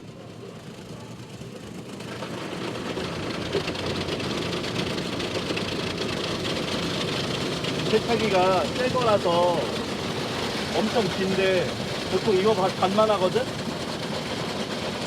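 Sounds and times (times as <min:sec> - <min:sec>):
car wash machinery running: 0:00.0 - 0:15.0.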